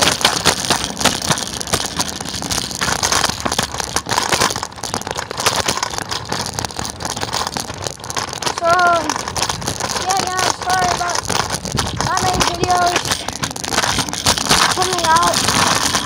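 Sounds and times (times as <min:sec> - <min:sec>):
scooter wheels rattling on pavement: 0:00.0 - 0:16.0
wind noise on microphone: 0:00.0 - 0:16.0.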